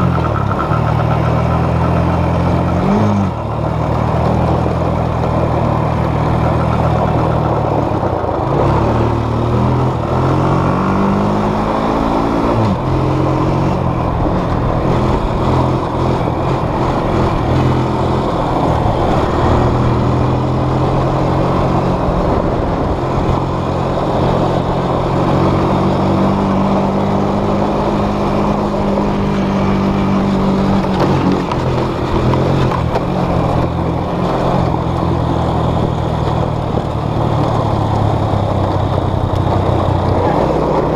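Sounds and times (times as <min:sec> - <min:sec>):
dense rushing noise: 0:00.0 - 0:40.9
off-road vehicle engine revving: 0:00.0 - 0:40.9.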